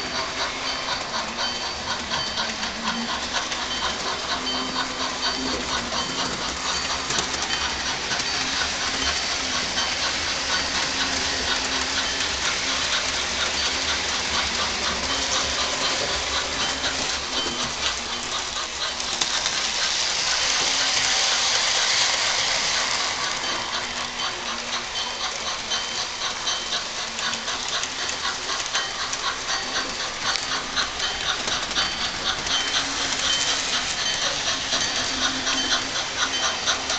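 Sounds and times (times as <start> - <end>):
model train running on track: 0.0 - 36.9.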